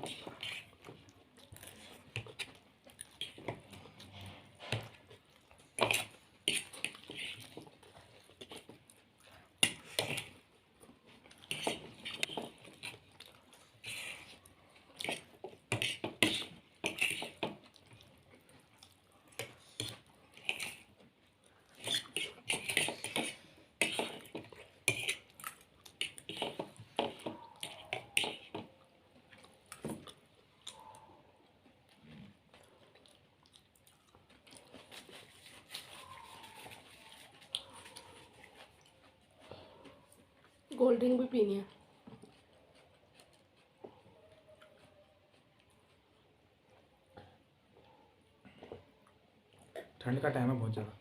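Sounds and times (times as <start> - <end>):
chewing food: 0.0 - 50.0.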